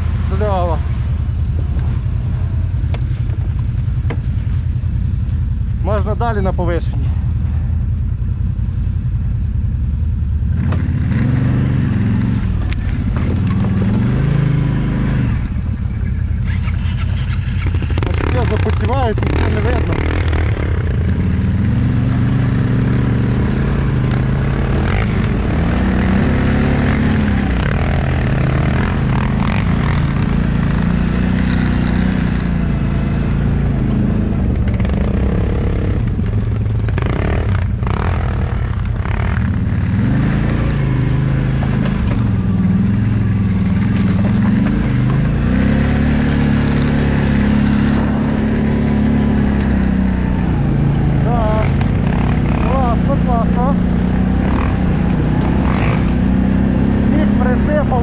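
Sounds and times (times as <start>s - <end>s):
off-road vehicle engine revving: 0.0s - 4.6s, 10.5s - 58.0s.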